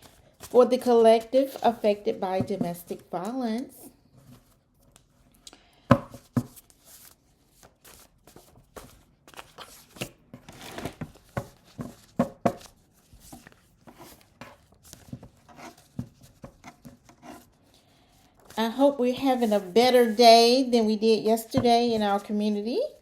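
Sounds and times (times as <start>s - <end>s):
rustling and crinkling: 0.0s - 5.4s, 6.1s - 23.0s.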